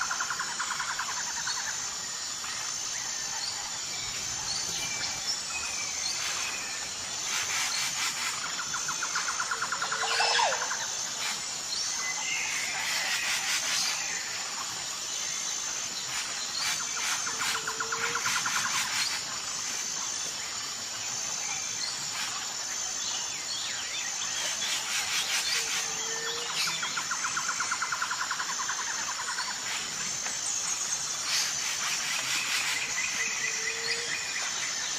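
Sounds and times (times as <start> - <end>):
high-pitched pulsing insect trill: 0.0 - 34.9
lower rattling insect call: 0.0 - 34.9.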